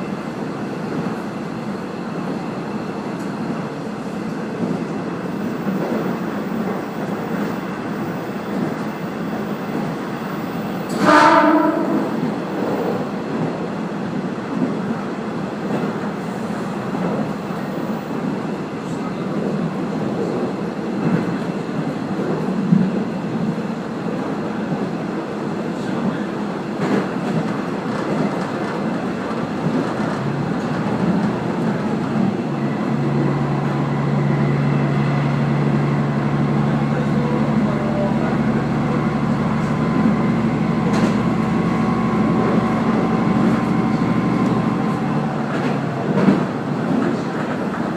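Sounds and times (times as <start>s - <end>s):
train wheel rumble on rails: 0.0s - 47.9s.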